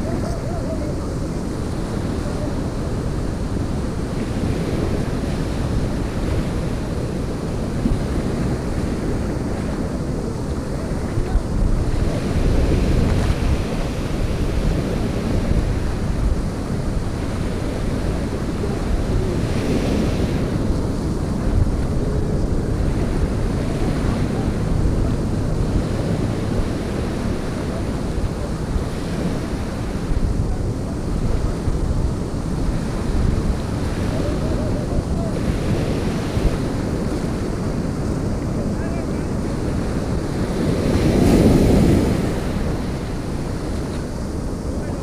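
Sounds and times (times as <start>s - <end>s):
small waves on sandy beach: 0.0s - 45.0s
wind buffeting microphone: 0.0s - 45.0s.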